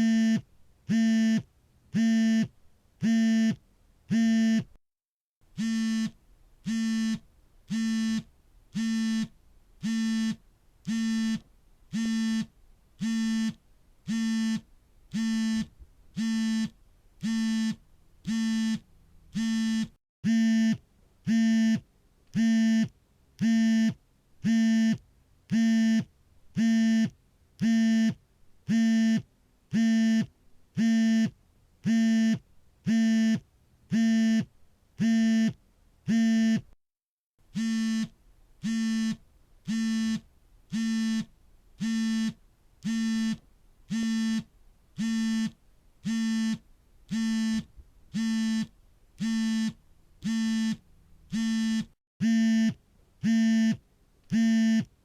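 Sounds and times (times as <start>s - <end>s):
smartphone vibrating buzzes: 0.0s - 4.7s, 5.6s - 21.8s, 22.4s - 36.7s, 37.5s - 54.9s.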